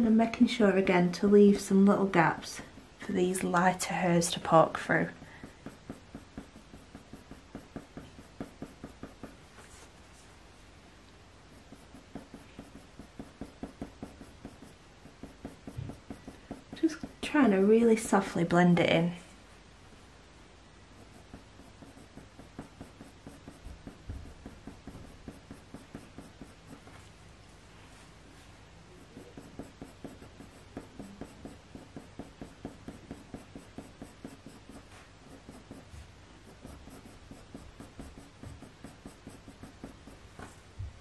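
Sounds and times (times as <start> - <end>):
coloured pencil scratching on paper: 0.2 - 10.3, 11.4 - 18.6, 20.9 - 27.1, 28.3 - 40.6.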